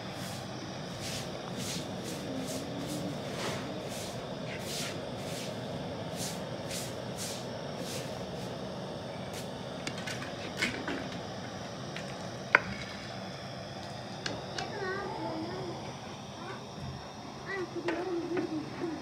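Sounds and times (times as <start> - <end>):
boiling broth rushing: 0.0 - 19.0.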